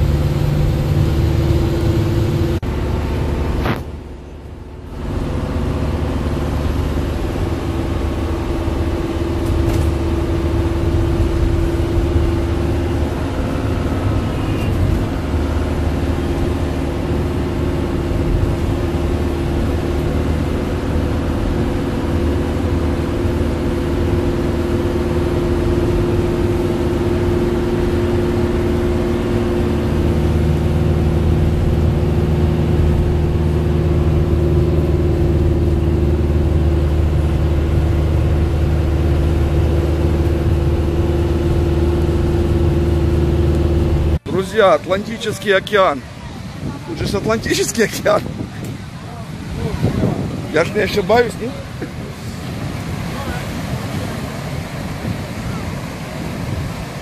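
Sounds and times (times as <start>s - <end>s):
road rumble: 0.0s - 57.0s
vehicle engine hum: 0.0s - 57.0s.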